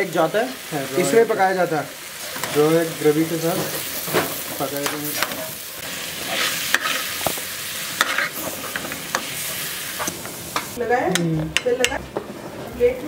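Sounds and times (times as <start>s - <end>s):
food sizzling in pan: 0.0s - 13.0s.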